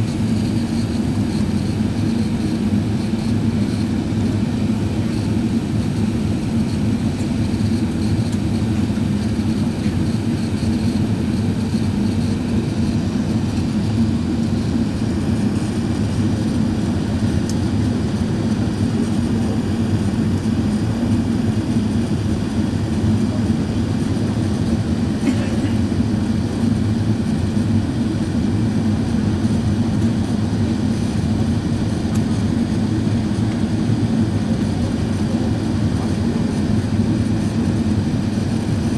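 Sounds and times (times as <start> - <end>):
aircraft cabin engine drone: 0.0 - 38.9.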